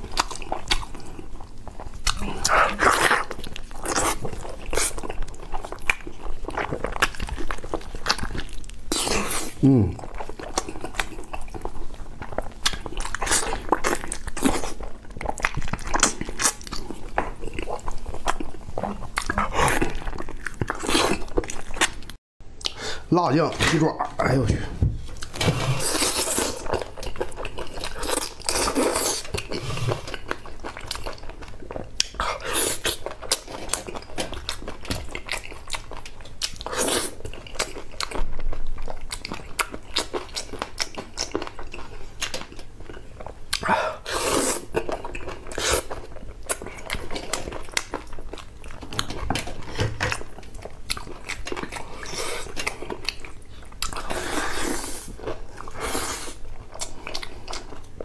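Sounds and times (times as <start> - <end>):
wet chewing and smacking: 0.0 - 22.8, 25.0 - 58.0.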